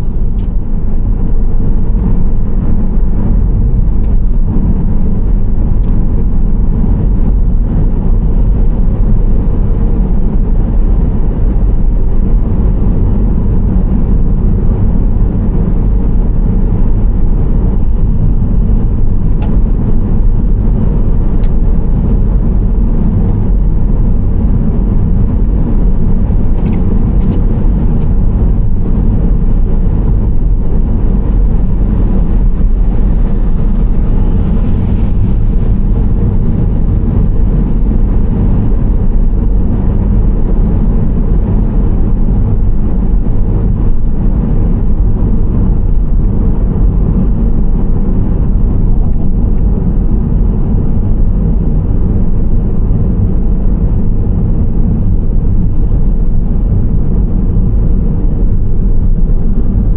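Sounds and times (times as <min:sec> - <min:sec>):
minivan driving rumble: 0:00.0 - 0:59.9.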